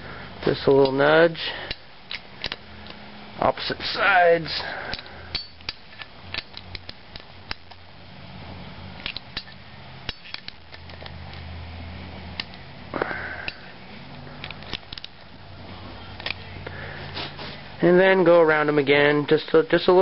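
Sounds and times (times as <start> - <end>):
steady low hum: 0.0 - 19.3.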